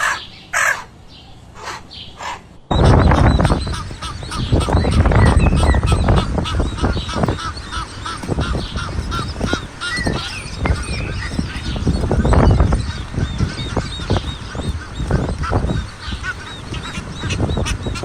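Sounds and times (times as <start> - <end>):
birds chirping: 0.0 - 18.0
low rumbling: 0.0 - 18.0.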